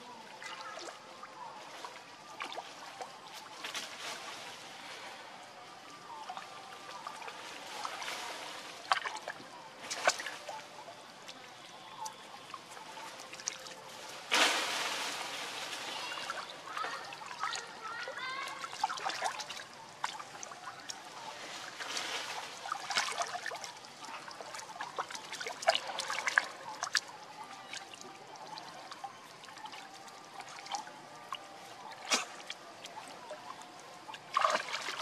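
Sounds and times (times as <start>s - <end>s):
water trickling and sloshing: 0.0s - 35.0s
monkeys splashing in water: 6.0s - 35.0s.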